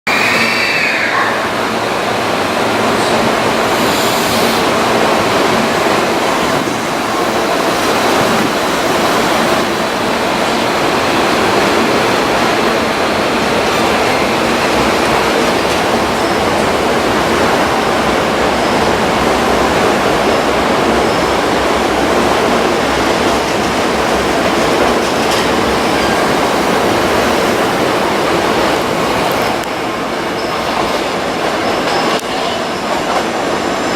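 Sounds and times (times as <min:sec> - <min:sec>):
electric train passing: 0:00.1 - 0:33.9.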